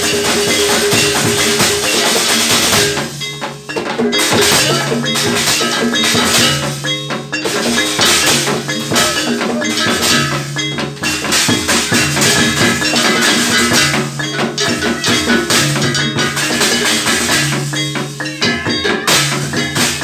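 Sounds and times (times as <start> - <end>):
hand drum strokes: 0.0 - 20.0
metallic gong-chime tones: 0.0 - 20.0.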